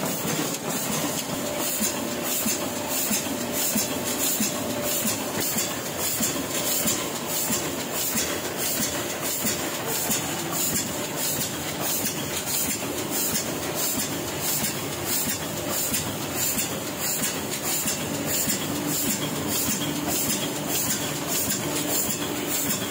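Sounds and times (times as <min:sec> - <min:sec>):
printing press mechanical clatter: 0:00.0 - 0:22.9.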